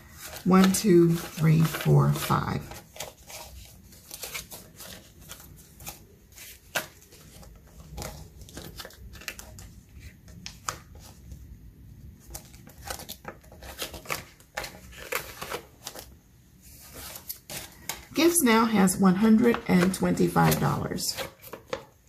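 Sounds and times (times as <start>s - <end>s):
banknotes rustling: 0.0s - 22.0s.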